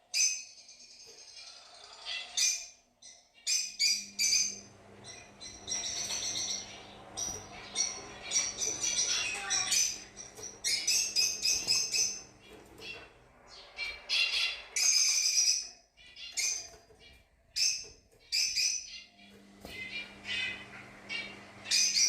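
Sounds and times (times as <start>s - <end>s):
lovebirds chirping: 0.0s - 22.0s.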